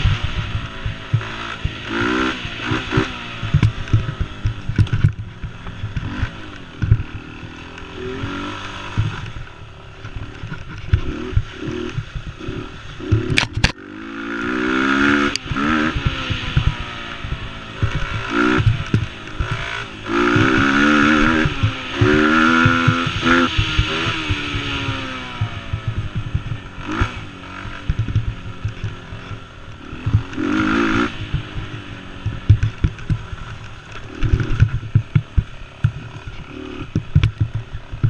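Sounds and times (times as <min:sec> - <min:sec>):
quad rattling over rough trail: 0:00.0 - 0:38.0
small engine revving: 0:00.0 - 0:38.0.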